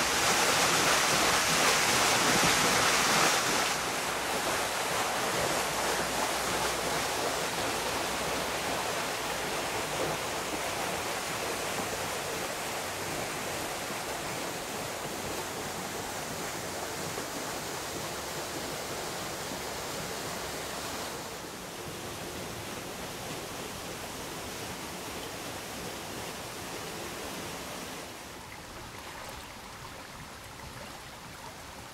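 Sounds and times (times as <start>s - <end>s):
water rushing: 0.0s - 31.9s.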